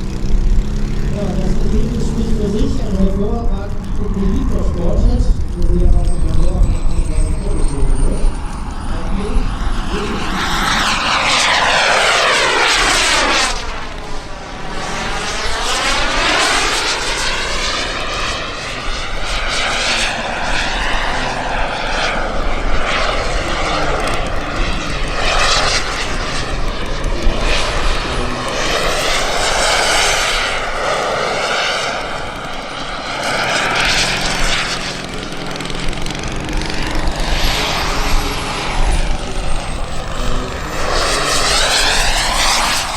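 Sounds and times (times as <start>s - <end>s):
model jet turbine rushing: 0.0s - 42.9s.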